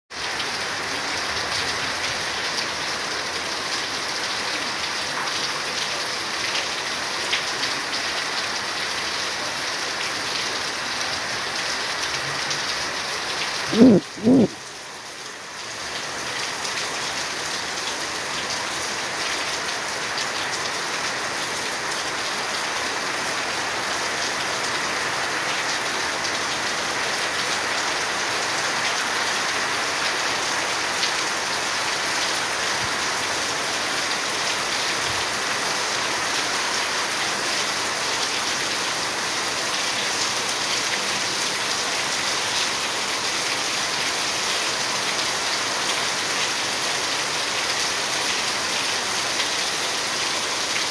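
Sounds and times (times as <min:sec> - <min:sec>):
steady rain falling: 0:00.1 - 0:50.9.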